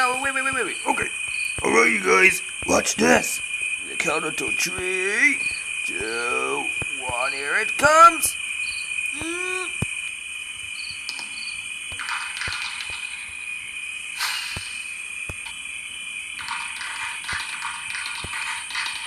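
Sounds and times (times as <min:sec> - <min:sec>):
hissing crackle: 0:00.0 - 0:19.0
insects chirring: 0:00.0 - 0:19.0.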